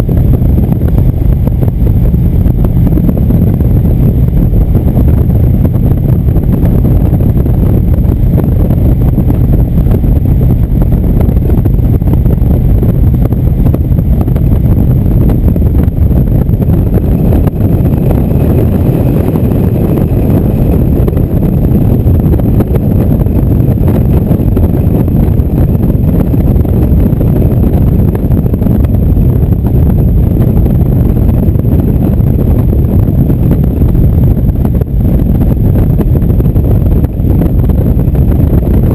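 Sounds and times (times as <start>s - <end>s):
motorcycle engine drone: 0.0s - 38.9s
wind noise on microphone: 0.0s - 38.9s.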